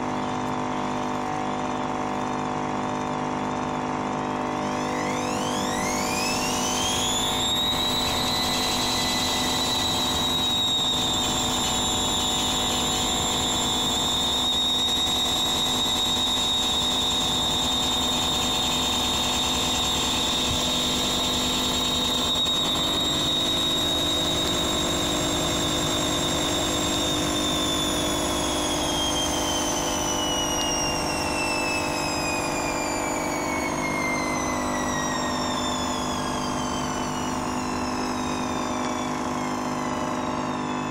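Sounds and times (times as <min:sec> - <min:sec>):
washing machine spin whine: 0:00.0 - 0:40.9.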